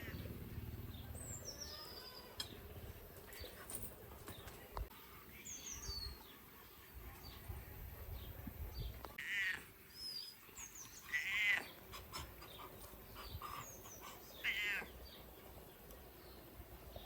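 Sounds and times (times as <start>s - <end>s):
small birds chirping faintly: 0.0s - 17.0s.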